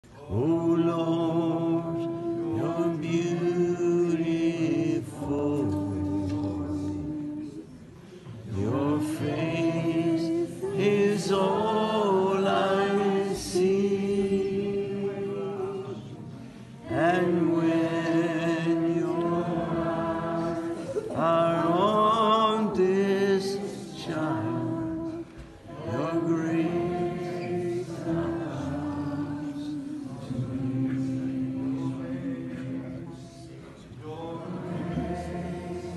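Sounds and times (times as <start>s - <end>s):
slow worship singing: 0.0s - 35.9s.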